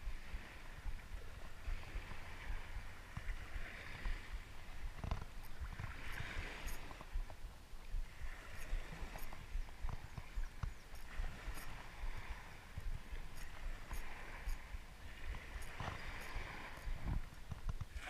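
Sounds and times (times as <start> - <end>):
sea water sloshing: 0.0 - 18.0
wind rumble on microphone: 0.0 - 18.0.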